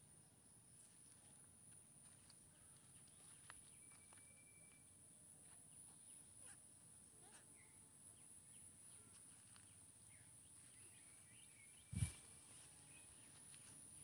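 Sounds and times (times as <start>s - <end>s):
faint chirps: 2.2s - 14.0s.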